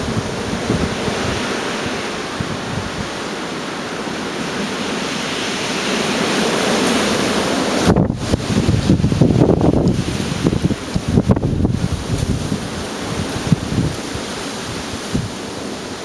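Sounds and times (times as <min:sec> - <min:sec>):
storm wind blowing: 0:00.0 - 0:16.0
wind buffeting microphone: 0:00.0 - 0:16.0.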